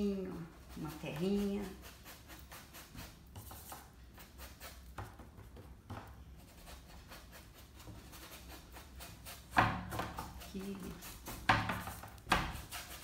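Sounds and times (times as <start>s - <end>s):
paintbrush scrubbing on canvas: 0.0s - 5.2s, 6.4s - 13.0s.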